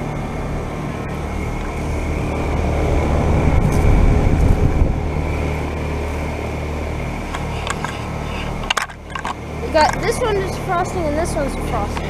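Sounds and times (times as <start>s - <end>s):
faint high whine: 0.0s - 12.0s
heat pump compressor hum: 0.0s - 12.0s
low rumble: 0.0s - 12.0s.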